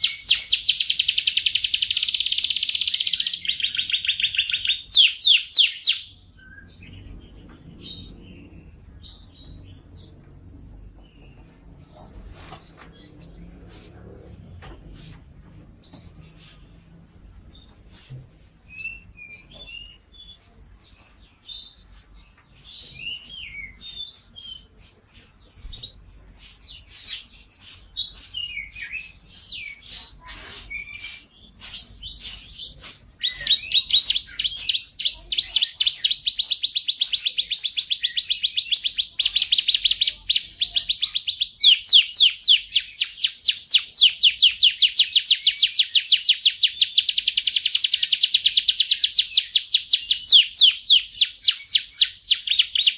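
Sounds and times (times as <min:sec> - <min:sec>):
canary singing: 0:00.0 - 0:12.2, 0:12.9 - 0:13.6, 0:15.8 - 0:17.7, 0:18.7 - 0:52.9.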